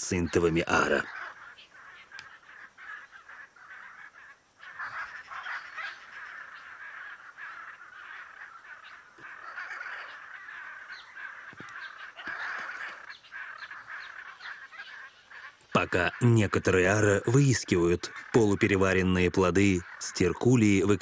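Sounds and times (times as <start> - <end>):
macaws squawking: 0.0 - 21.0.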